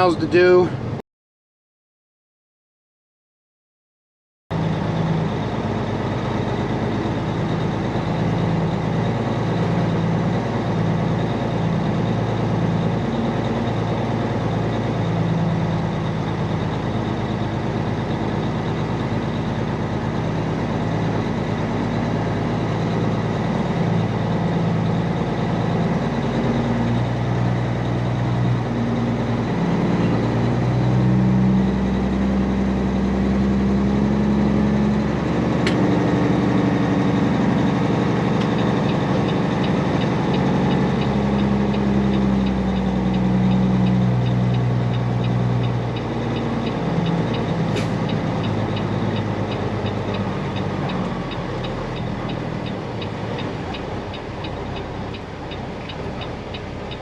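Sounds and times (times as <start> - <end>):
diesel truck engine running: 0.0 - 1.0, 4.5 - 57.0.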